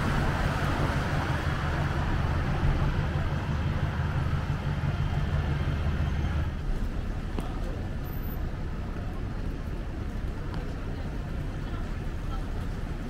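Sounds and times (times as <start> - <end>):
low engine hum: 0.0 - 13.0
street traffic: 0.0 - 13.0.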